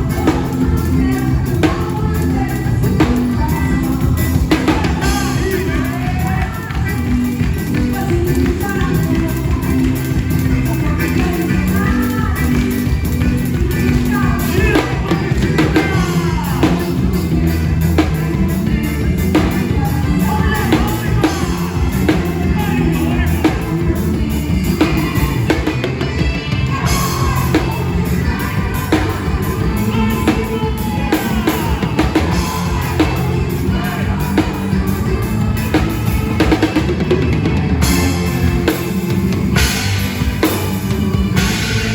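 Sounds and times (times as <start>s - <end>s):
drum kit beat: 0.0s - 41.9s
live band music: 0.0s - 41.9s.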